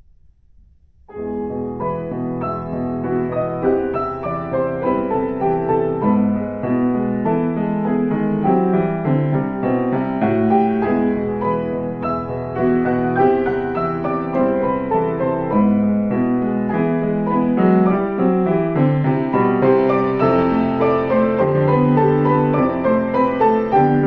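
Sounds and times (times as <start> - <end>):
piano duet: 0.0 - 24.0.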